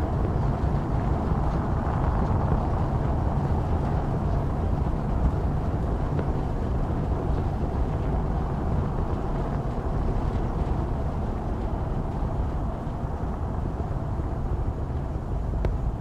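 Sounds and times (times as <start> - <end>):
rocket engines deep rumble: 0.0 - 16.0.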